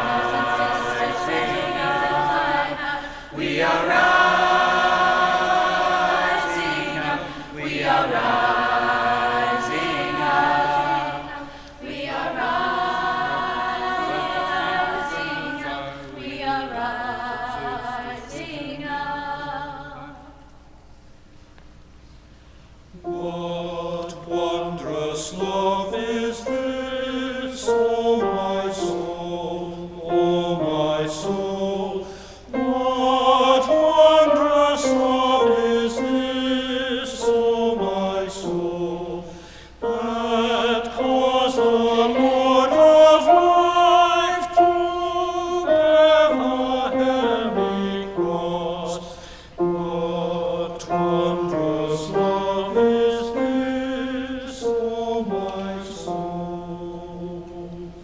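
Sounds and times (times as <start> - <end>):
choir singing a hymn: 0.0 - 20.5, 22.9 - 58.0.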